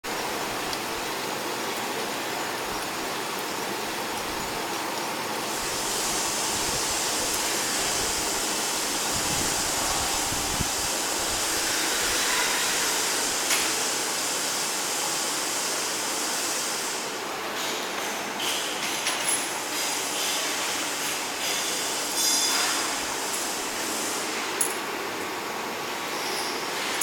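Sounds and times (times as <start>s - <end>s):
washing machine water spray hiss: 0.0s - 27.0s.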